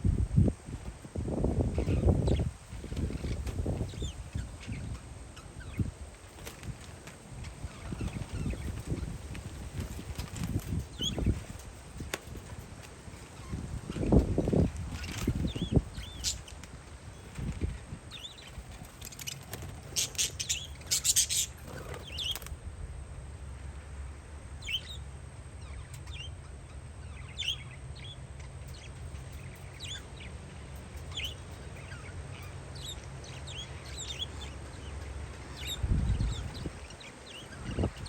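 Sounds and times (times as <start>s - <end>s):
steady low rumble: 0.0s - 38.0s
parakeets calling: 0.8s - 22.6s, 24.6s - 38.0s.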